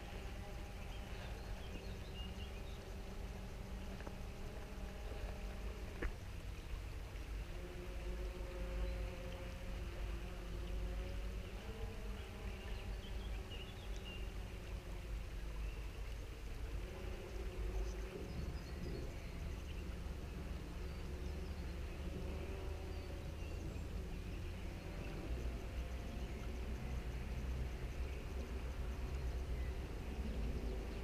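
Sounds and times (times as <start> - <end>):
faint wavering hum: 0.0 - 31.0
wind rumbling on microphone: 0.0 - 31.0.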